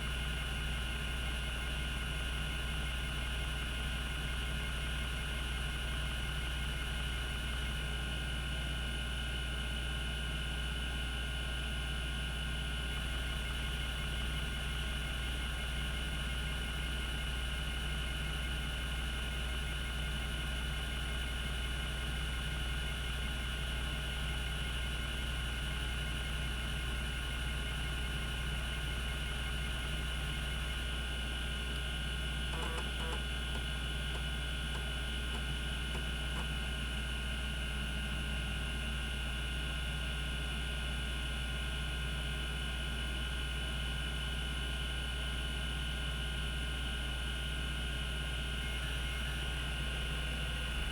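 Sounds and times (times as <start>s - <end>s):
hard disk hum with whine: 0.0s - 50.9s.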